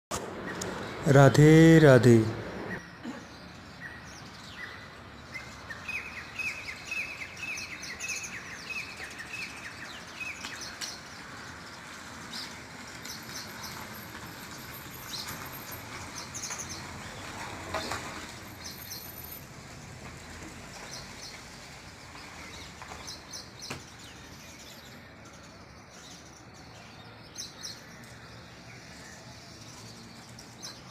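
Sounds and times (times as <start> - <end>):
birds chirping: 0.2 - 19.4, 20.7 - 30.9.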